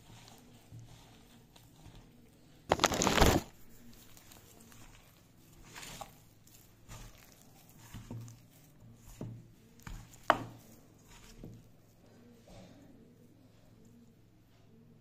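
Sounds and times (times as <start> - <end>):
hand patting and squishing dough: 0.0 - 14.3.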